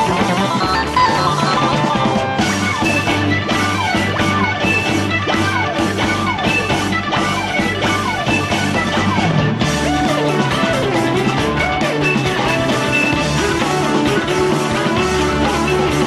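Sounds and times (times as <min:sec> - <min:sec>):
instrumental progressive rock music: 0:00.0 - 0:16.0.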